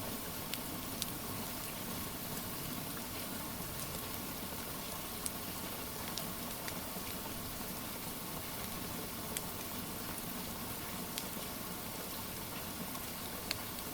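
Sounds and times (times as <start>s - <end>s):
wood fire crackling: 0.1s - 13.9s.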